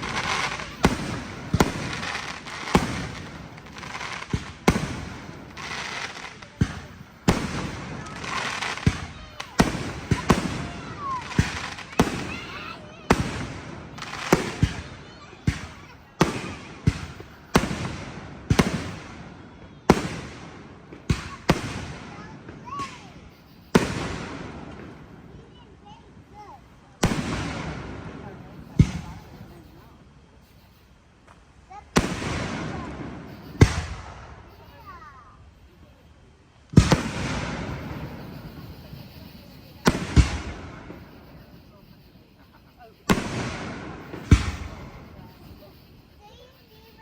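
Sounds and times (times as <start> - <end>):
fireworks bangs: 0.0 - 36.0, 36.7 - 47.0.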